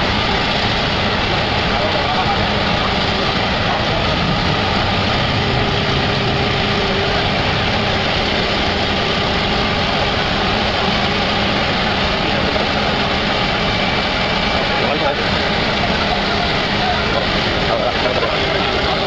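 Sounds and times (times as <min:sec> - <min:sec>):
diesel machinery engine running: 0:00.0 - 0:19.0.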